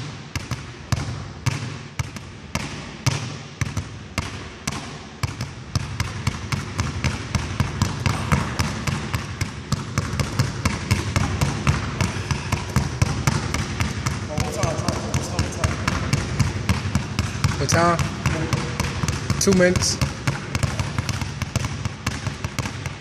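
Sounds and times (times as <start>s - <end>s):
basketballs bouncing on wooden floor: 0.0s - 23.0s.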